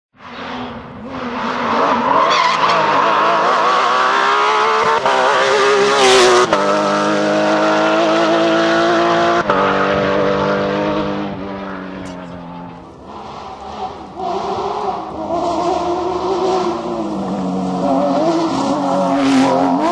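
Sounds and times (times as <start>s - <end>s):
rally car engine at full throttle: 0.1s - 19.9s
engine upshifts: 0.2s - 19.9s.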